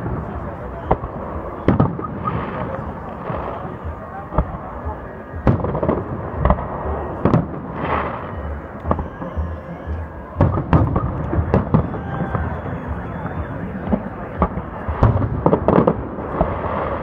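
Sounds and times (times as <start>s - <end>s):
fireworks bursting with sharp bangs: 0.0s - 17.0s.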